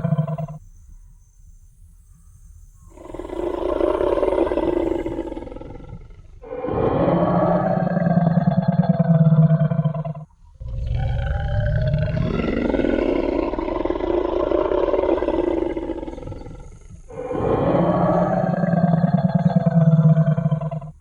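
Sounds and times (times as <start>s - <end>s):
dinosaur roar: 0.0s - 0.6s, 2.9s - 21.0s.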